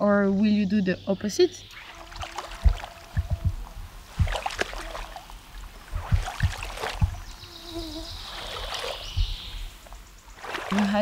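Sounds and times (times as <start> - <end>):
water trickling and splashing: 1.6 - 11.0.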